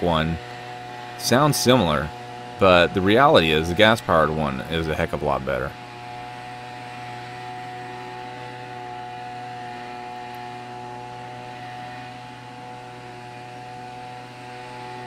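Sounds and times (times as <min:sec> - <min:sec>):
leaf blower engine running: 0:00.0 - 0:15.0.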